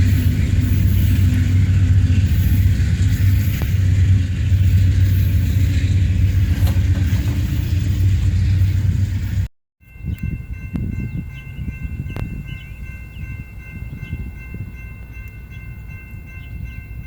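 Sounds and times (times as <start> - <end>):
passing train rumble: 0.0 - 17.0.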